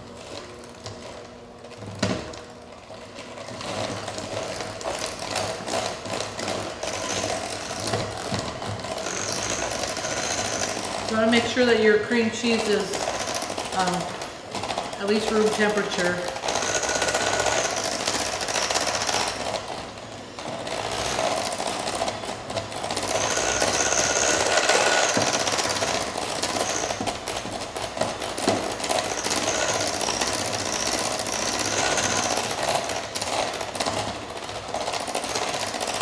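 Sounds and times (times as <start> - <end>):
electric hand mixer running: 2.1 - 36.0.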